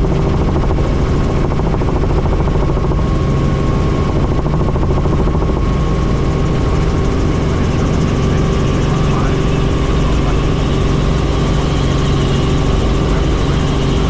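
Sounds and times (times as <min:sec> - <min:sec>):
helicopter engine and rotor noise: 0:00.0 - 0:14.0.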